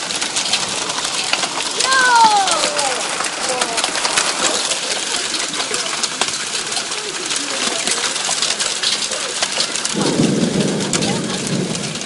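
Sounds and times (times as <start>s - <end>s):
hailstones striking: 0.0s - 12.0s
rain falling hard: 0.0s - 12.0s.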